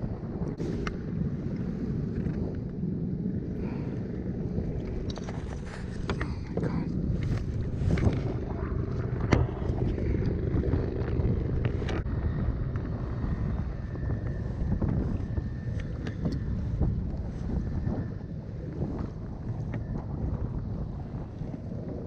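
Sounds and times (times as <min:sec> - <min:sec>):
choppy water: 0:00.0 - 0:22.0
wind buffeting microphone: 0:00.0 - 0:22.0.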